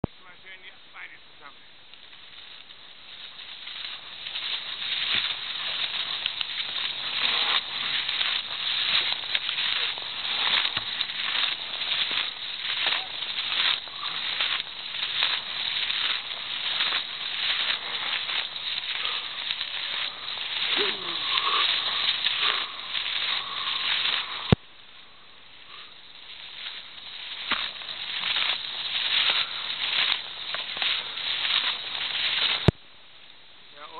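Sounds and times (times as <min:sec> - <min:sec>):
skis scraping on snow: 0:02.0 - 0:24.6, 0:25.6 - 0:32.8.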